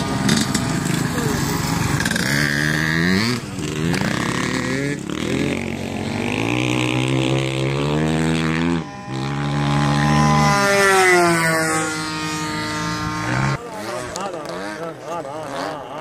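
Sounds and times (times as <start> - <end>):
model plane engine in flight: 0.0 - 16.0.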